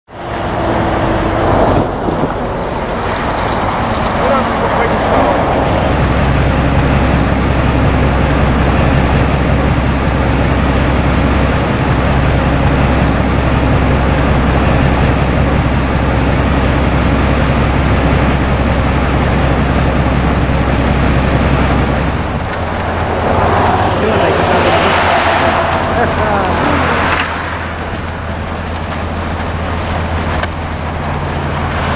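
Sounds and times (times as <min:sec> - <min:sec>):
heavy engine drone: 0:00.1 - 0:31.9
spinning rotor throwing snow: 0:05.9 - 0:31.9.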